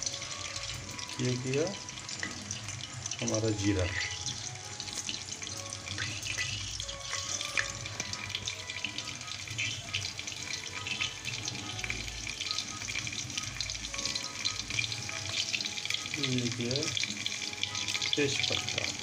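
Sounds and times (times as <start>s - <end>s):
seeds sizzling in hot oil: 0.0s - 19.0s.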